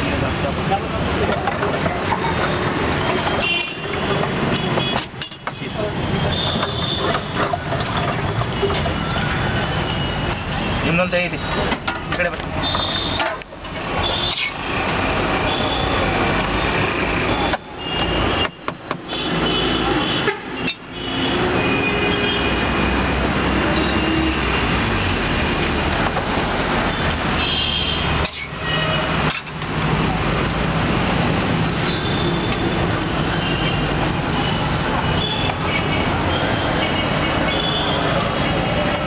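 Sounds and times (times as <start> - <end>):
traffic running steadily: 0.0 - 39.0.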